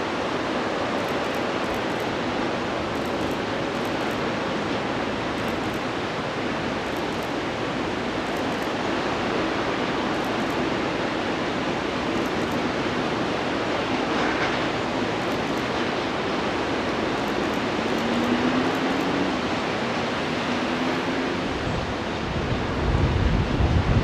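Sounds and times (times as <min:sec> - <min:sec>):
fast river rushing: 0:00.0 - 0:24.0.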